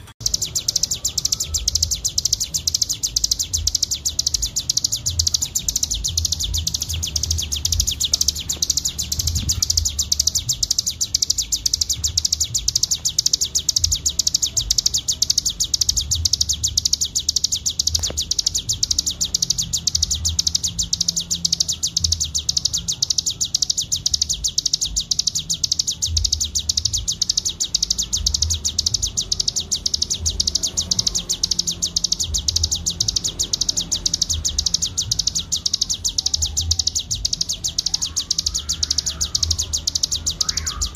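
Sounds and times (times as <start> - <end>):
songbird rapid high trill: 0.0 - 40.9.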